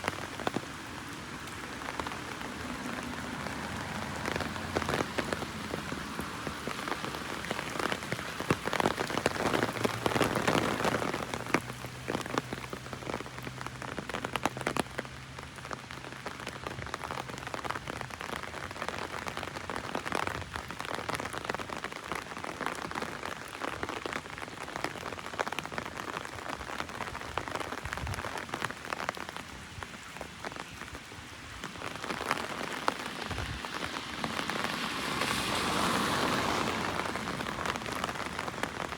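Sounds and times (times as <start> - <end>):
heavy rain on umbrella: 0.0 - 38.9.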